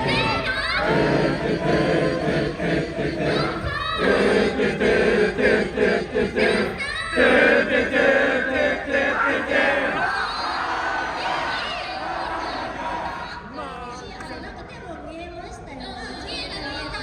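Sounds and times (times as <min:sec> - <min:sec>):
crowd chanting in unison: 0:00.0 - 0:14.4.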